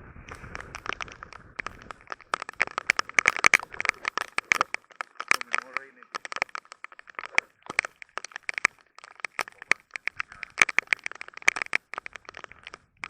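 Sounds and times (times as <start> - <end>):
heavy rain drops tapping: 0.0 - 13.0.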